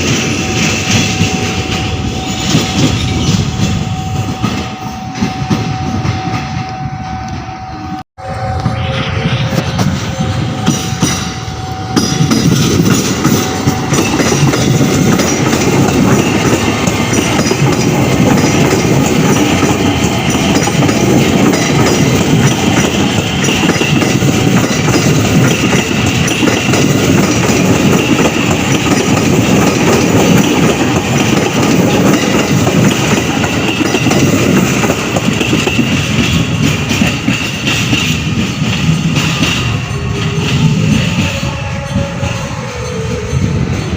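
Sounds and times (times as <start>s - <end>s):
electric train rumbling: 0.0s - 43.9s.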